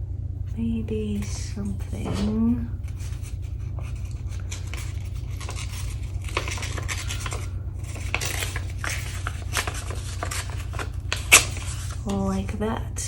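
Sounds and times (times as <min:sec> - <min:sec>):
low hum: 0:00.0 - 0:13.0
paper rustling and tapping: 0:01.7 - 0:12.2.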